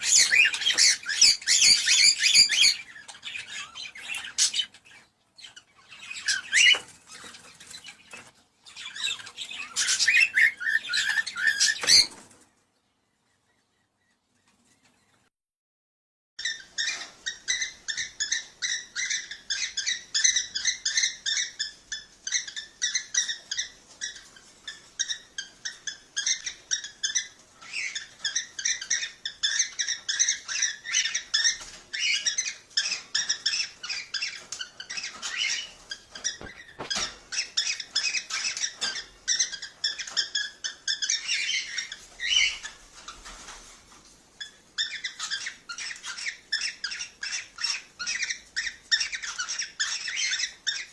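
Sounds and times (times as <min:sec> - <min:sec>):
cockatiels chirping: 0:00.0 - 0:12.3, 0:16.4 - 0:50.9.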